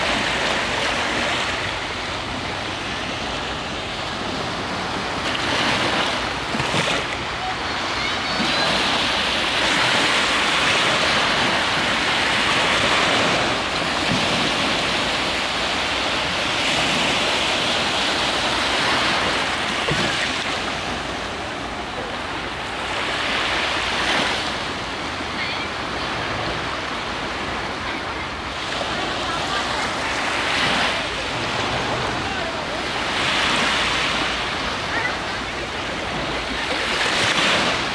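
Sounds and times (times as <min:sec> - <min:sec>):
waves breaking on beach: 0:00.0 - 0:37.9.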